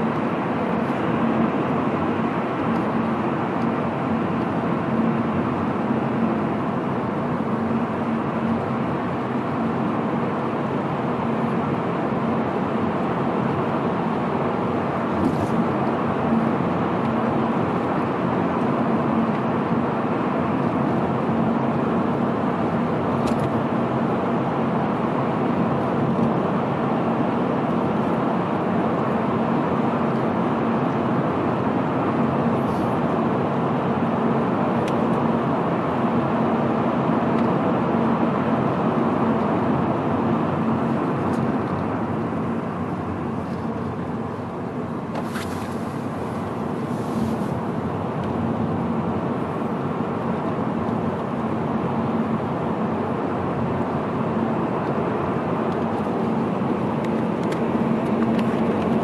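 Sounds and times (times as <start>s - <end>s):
car tyre and engine noise: 0.0s - 59.0s.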